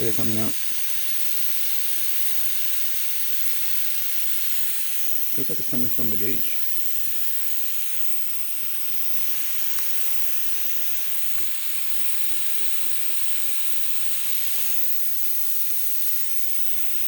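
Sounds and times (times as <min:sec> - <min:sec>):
compressed air hissing from leak: 0:00.0 - 0:17.0.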